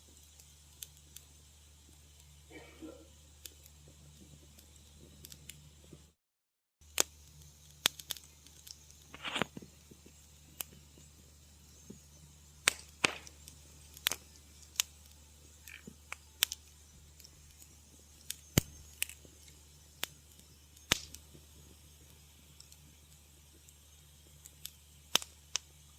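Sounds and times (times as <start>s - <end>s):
low rumble of fire: 0.0s - 6.2s, 6.8s - 25.9s
wood fire crackling: 0.0s - 6.2s, 6.8s - 25.9s.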